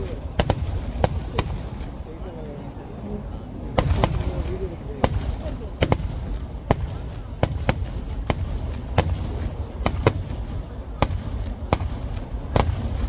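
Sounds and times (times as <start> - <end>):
fireworks bangs: 0.0 - 2.3, 3.7 - 13.0
steady low rumble: 0.0 - 13.0.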